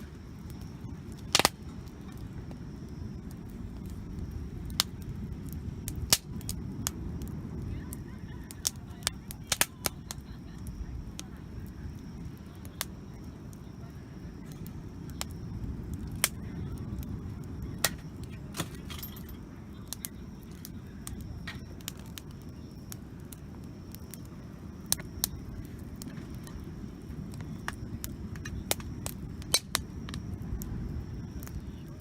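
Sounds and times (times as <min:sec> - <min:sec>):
campfire crackling and popping: 0:00.0 - 0:32.0
steady low rumble: 0:00.0 - 0:32.0.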